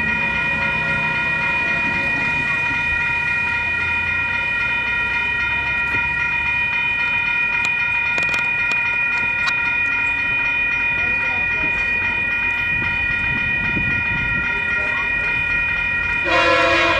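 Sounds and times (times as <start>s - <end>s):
locomotive rumble: 0.0s - 16.9s
railroad crossing bell ringing: 0.0s - 16.9s.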